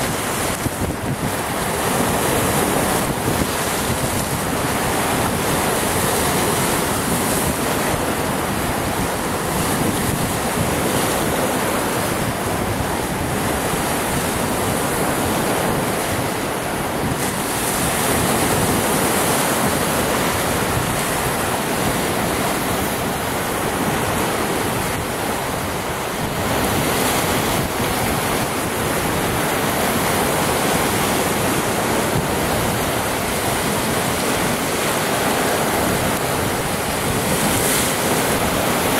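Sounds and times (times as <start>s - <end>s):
waves splashing on rocks: 0.0s - 38.9s
wind rumbling on microphone: 0.0s - 38.9s.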